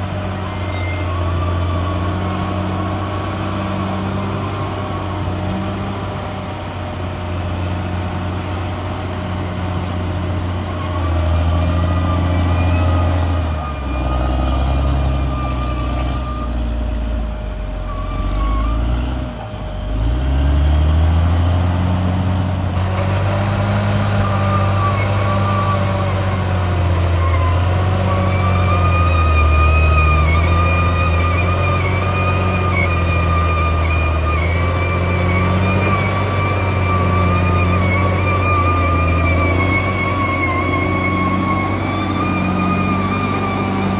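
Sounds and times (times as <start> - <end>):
bulldozer diesel engine: 0.0 - 43.9.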